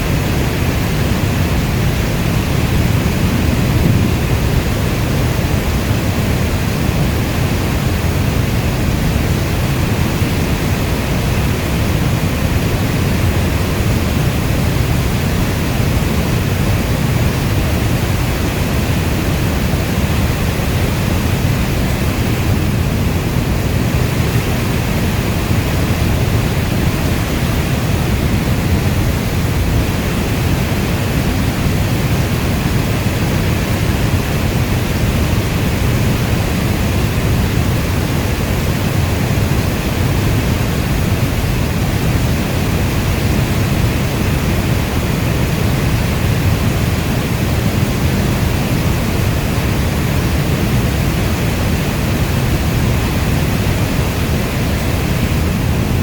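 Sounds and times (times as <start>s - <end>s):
heavy rainfall hiss: 0.0s - 56.0s.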